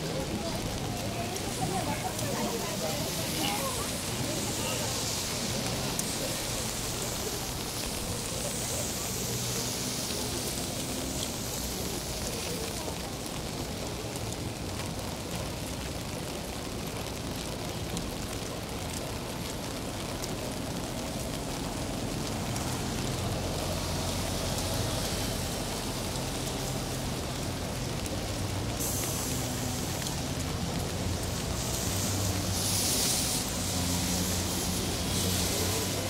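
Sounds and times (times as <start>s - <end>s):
low traffic hum: 0.0s - 36.0s
rain falling on street: 0.0s - 36.0s.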